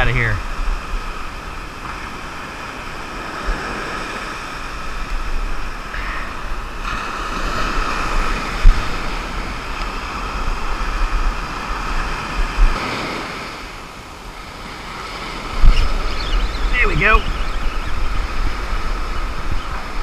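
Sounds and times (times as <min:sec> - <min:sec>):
wind buffeting microphone: 0:00.0 - 0:13.8, 0:15.2 - 0:20.0
ocean surf breaking: 0:00.0 - 0:20.0.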